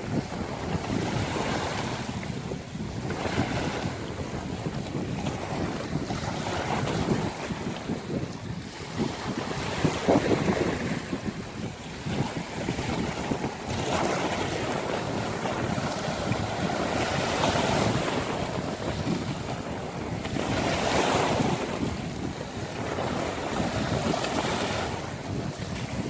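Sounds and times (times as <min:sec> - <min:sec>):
sea waves breaking: 0:00.0 - 0:26.0
wind on microphone: 0:00.0 - 0:26.0.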